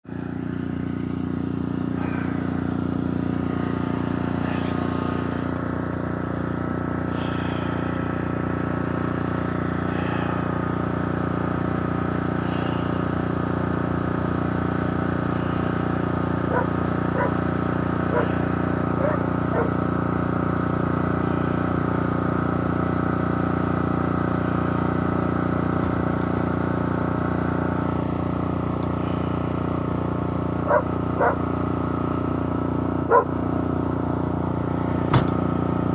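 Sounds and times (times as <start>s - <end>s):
engine idling hum: 0.0s - 35.9s.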